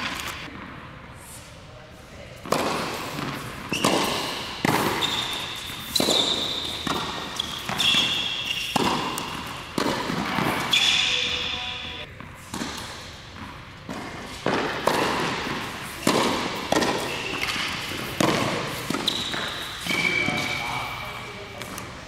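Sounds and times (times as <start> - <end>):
court shoes squeaking: 0.0 - 0.8, 2.4 - 22.0.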